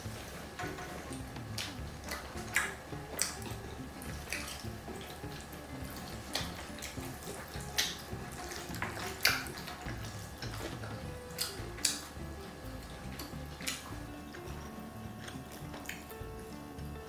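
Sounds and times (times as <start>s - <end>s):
chopsticks mixing sticky noodles: 0.0s - 17.0s
chopsticks clicking: 0.6s - 16.3s.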